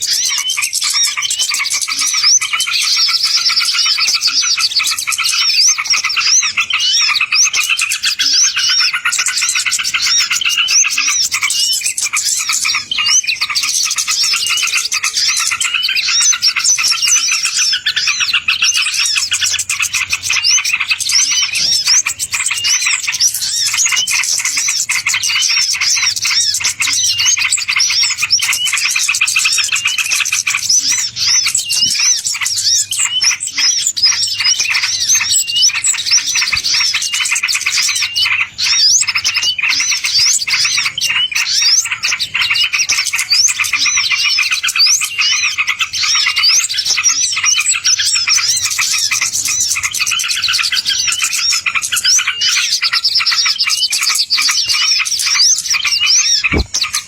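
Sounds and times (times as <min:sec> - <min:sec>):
songbirds twittering and chirping: 0:00.0 - 0:57.0.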